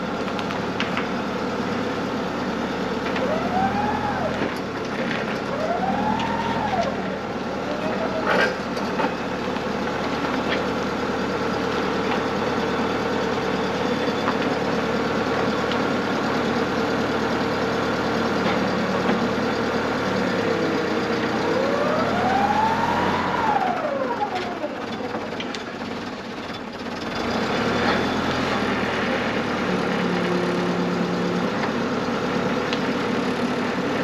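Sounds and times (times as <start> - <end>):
machine engine running and revving: 0.0 - 34.0.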